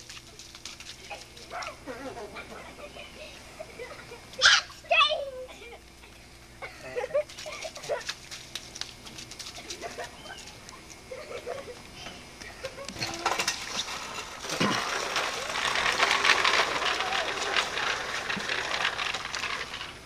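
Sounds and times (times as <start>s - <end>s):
children calling: 1.0s - 7.0s, 9.6s - 19.9s.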